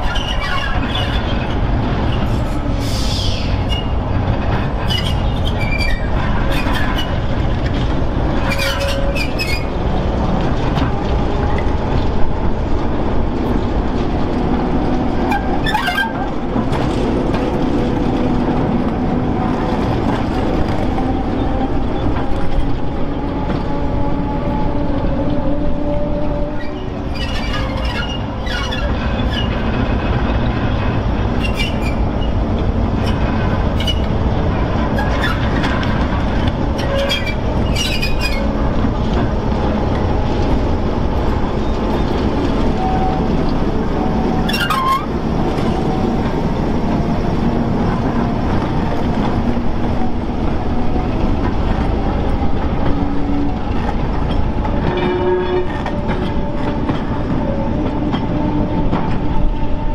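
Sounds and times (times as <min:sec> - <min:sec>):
diesel locomotive rumbling: 0:00.0 - 0:59.9.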